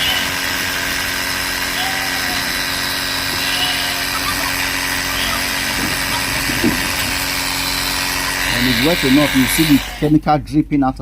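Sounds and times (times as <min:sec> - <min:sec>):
sprayer engine running: 0:00.0 - 0:10.7.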